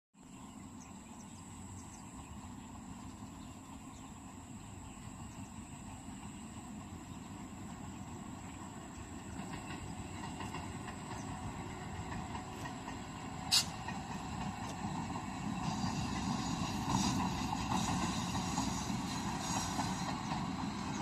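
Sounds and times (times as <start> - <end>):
train rumbling on rails: 0.2 - 21.0.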